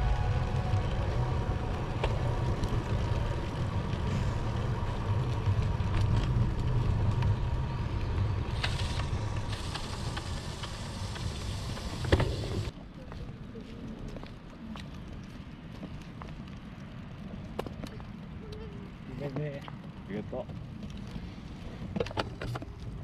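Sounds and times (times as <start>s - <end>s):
wind and road rumble: 0.0s - 23.0s.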